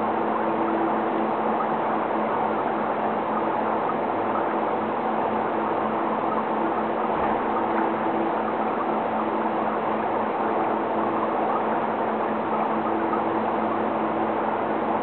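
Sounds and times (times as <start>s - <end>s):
aquarium equipment humming: 0.0s - 15.0s.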